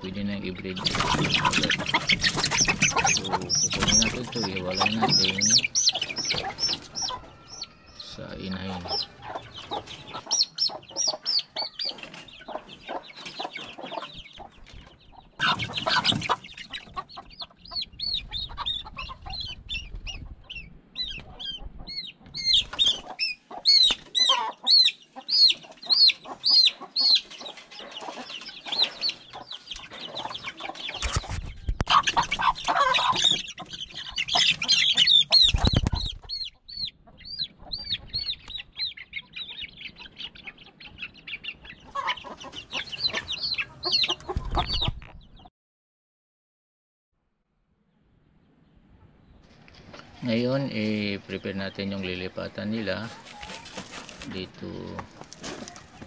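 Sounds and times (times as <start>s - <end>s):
chicks peeping loudly: 0.0s - 45.5s, 48.2s - 56.0s
hen clucking: 0.0s - 45.5s, 48.9s - 56.0s.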